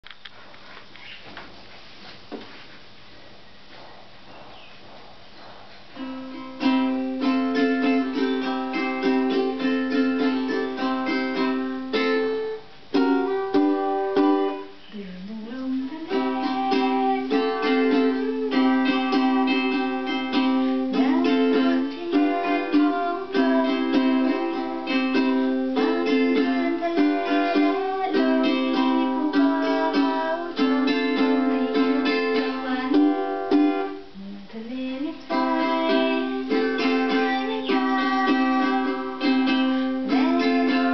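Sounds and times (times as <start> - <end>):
plucked string instrument melody: 6.0 - 14.8, 15.8 - 34.1, 35.2 - 40.9.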